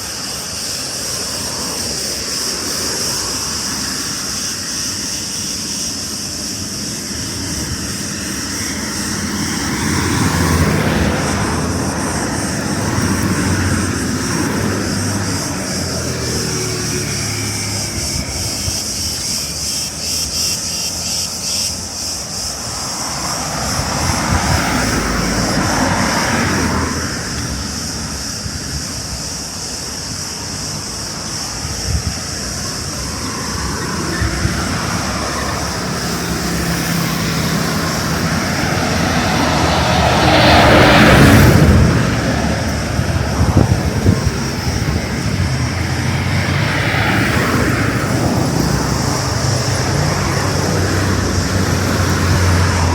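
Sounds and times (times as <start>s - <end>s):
cicada chorus: 0.0s - 52.9s
passing engine: 0.0s - 52.9s.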